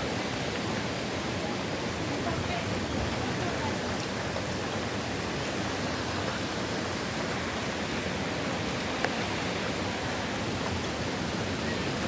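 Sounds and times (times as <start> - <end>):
wind and rain rushing: 0.0 - 12.0.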